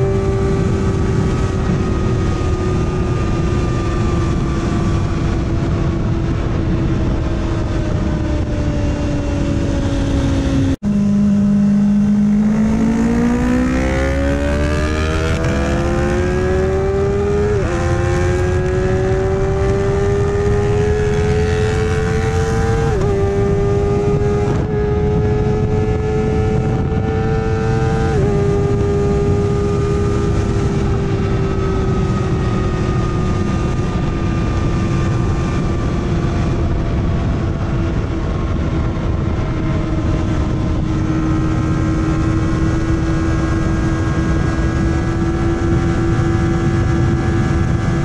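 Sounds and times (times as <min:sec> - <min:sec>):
heavy wind rush: 0:00.0 - 0:48.0
motorcycle engine at high revs: 0:00.0 - 0:48.0.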